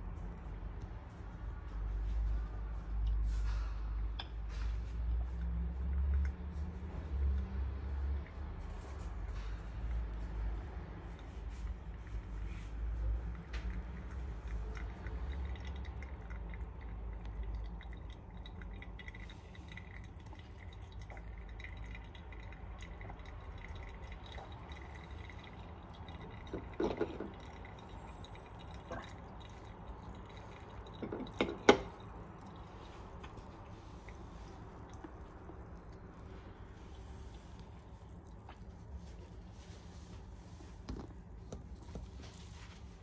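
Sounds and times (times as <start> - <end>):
coffee dripping through filter: 0.0 - 43.0.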